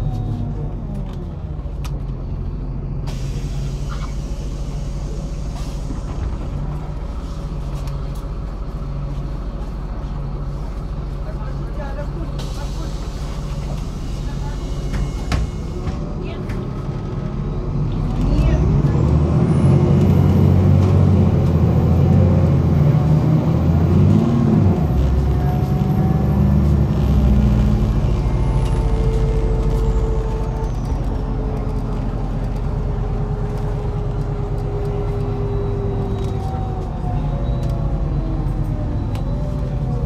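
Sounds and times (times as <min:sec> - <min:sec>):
bus diesel engine: 0:00.0 - 0:40.0.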